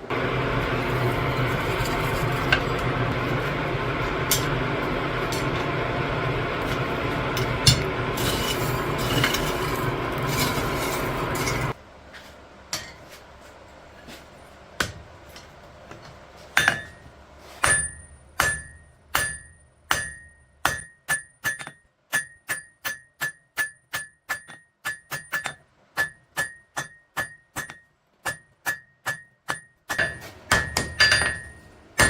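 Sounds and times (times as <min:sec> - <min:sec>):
hammer striking steel on anvil: 0:01.4 - 0:11.8, 0:12.7 - 0:13.0, 0:16.6 - 0:32.0.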